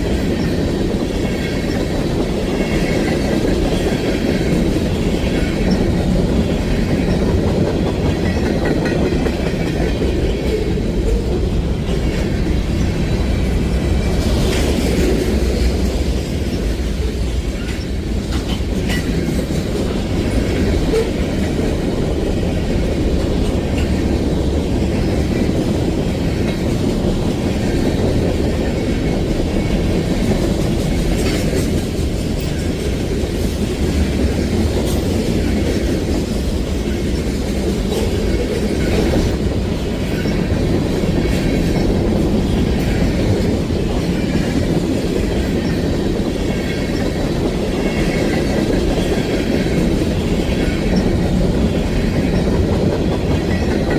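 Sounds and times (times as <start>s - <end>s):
freight train cars rolling past: 0.0s - 53.9s
wheels clicking over rail joints: 0.0s - 53.9s.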